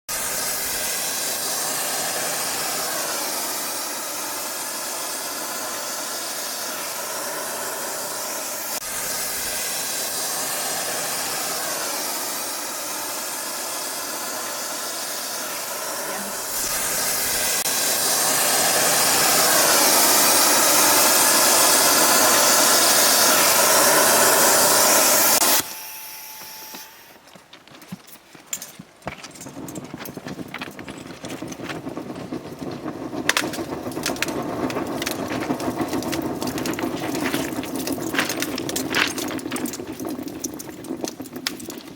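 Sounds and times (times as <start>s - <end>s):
thermite welding hissing roar: 0.1s - 27.2s, 29.6s - 41.9s.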